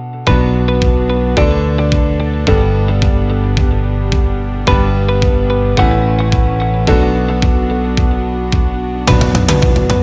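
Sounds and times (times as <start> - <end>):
soft guitar instrumental music: 0.0 - 10.0.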